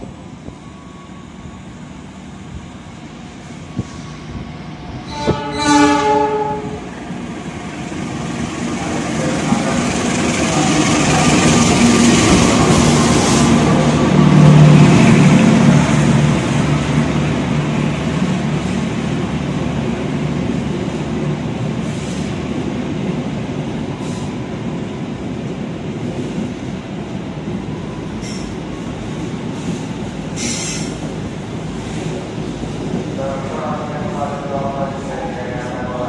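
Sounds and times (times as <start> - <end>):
train coaches rumbling past: 0.0 - 36.0.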